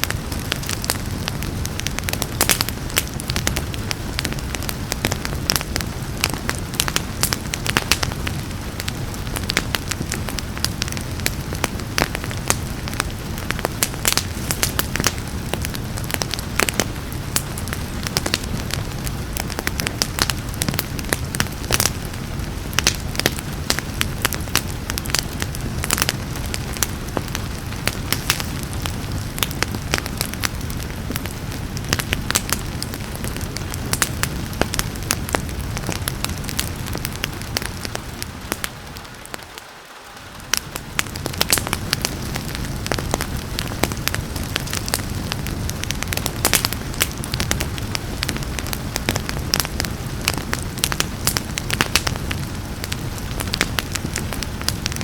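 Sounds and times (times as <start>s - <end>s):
rain hiss: 0.0s - 55.0s
wood fire crackling and popping: 0.0s - 55.0s.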